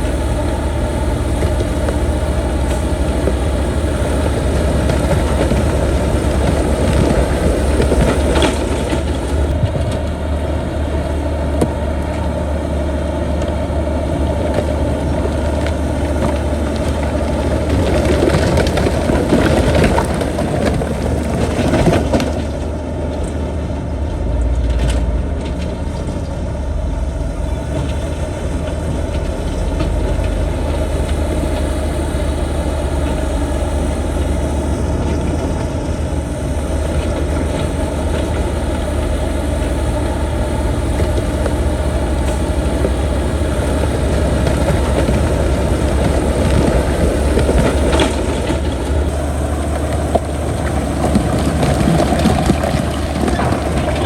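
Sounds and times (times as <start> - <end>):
diesel machinery running: 0.0 - 54.0
grinding and crushing: 0.0 - 54.0.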